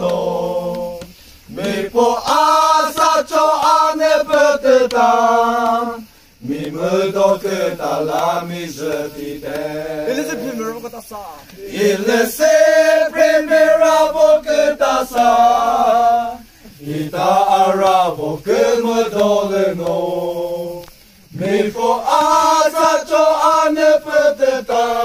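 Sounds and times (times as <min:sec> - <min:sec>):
young men singing together: 0:00.0 - 0:25.0.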